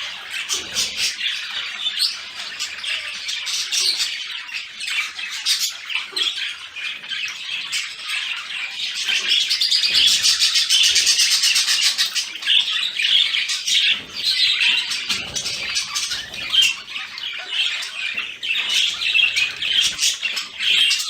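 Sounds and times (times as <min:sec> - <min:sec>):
budgerigar chirping and warbling: 0:00.0 - 0:21.0.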